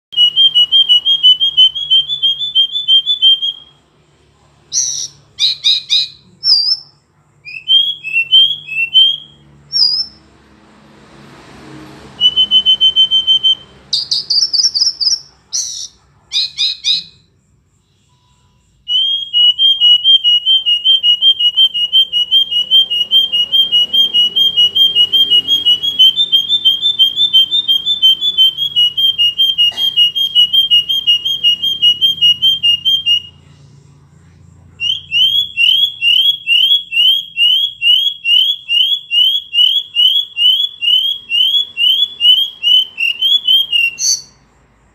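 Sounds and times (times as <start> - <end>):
bird singing high whistled notes: 0.1 - 3.8, 4.7 - 10.3, 12.2 - 33.4, 34.8 - 44.4.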